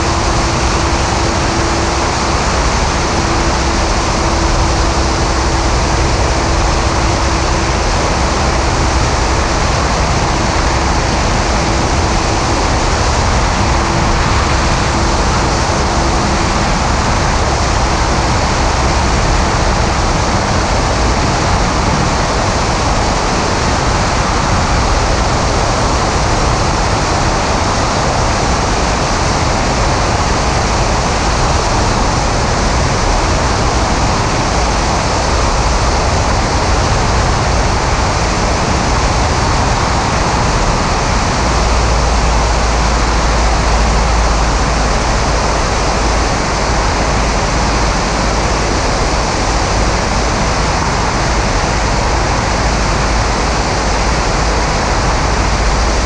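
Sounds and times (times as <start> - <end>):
aircraft engine and propeller: 0.0 - 56.0
wind rushing over camera: 0.0 - 56.0.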